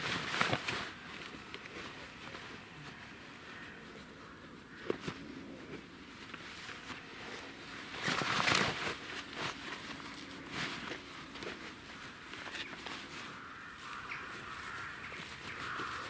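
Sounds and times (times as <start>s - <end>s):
footsteps in grass: 0.0s - 16.0s.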